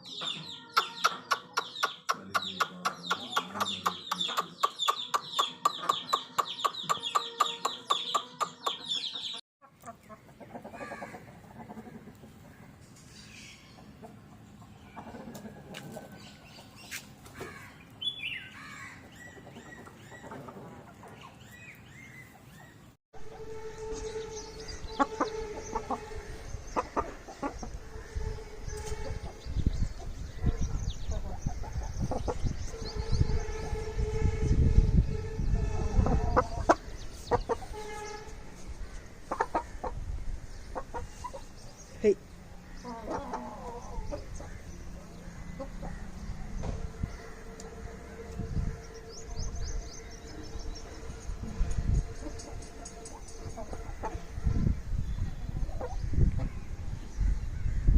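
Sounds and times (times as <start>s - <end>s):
chickens clucking: 0.0s - 17.4s, 19.0s - 33.8s, 35.8s - 49.0s, 50.4s - 56.6s.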